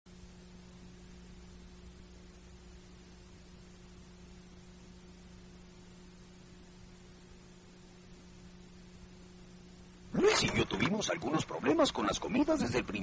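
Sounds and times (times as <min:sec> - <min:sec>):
low electrical hum: 0:00.1 - 0:13.0
tape hiss: 0:00.1 - 0:13.0.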